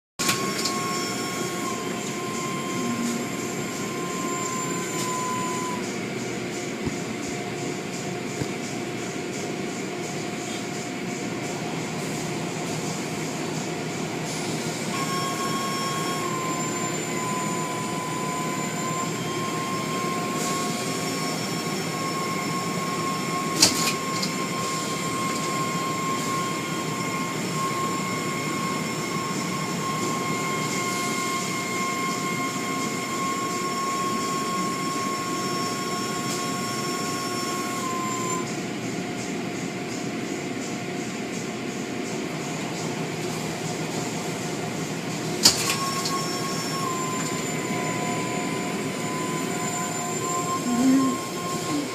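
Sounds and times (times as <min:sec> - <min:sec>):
car wash machinery rushing: 0:00.2 - 0:38.8, 0:42.3 - 0:51.9
high motor whine: 0:00.2 - 0:51.9.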